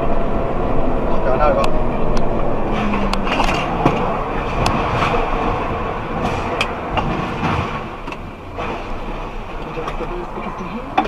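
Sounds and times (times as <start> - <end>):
road vehicle running noise: 0.0 - 11.0.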